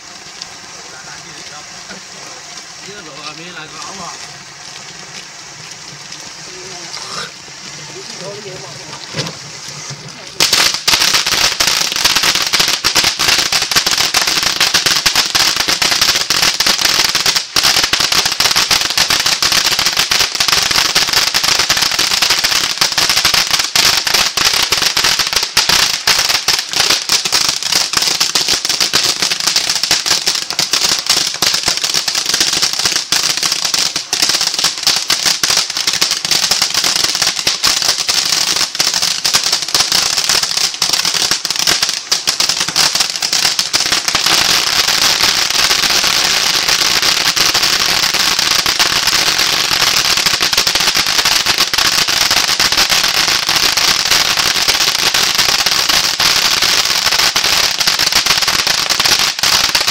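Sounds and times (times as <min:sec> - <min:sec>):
crackling pops: 0:00.0 - 0:59.9
firework fountain hissing: 0:00.0 - 0:59.9.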